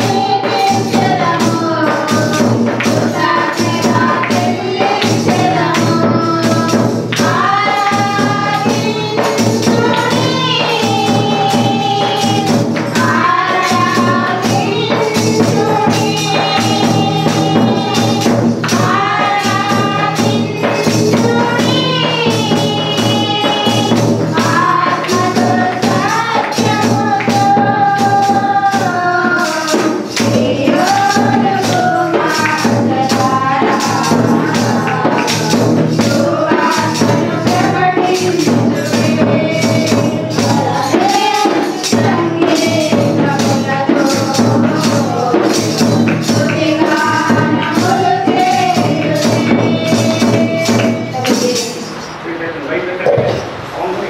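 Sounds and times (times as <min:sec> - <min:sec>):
tambourine beat: 0:00.0 - 0:52.4
group singing devotional song: 0:00.0 - 0:54.0.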